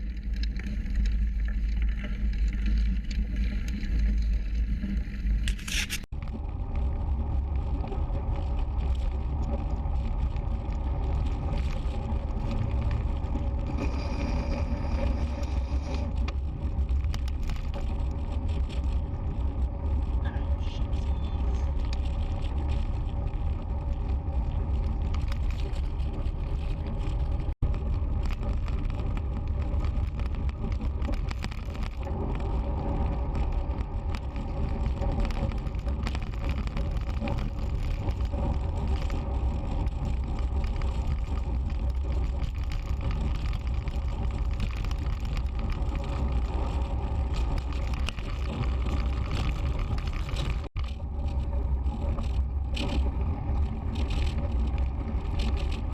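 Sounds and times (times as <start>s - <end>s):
bicycle rattling: 0.0s - 55.9s
bicycle road noise: 0.0s - 55.9s
wind rumble: 0.0s - 55.9s.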